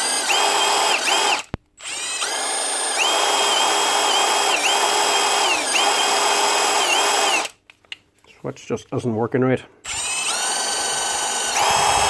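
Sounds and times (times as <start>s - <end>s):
impact wrench motor whining: 0.0s - 7.6s, 9.8s - 12.0s.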